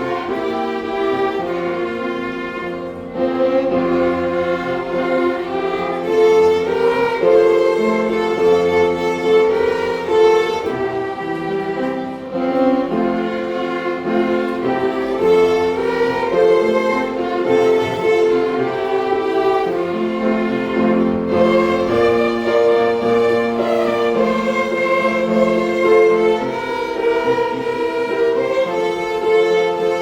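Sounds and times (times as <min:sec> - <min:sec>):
string ensemble playing hymn: 0:00.0 - 0:30.0.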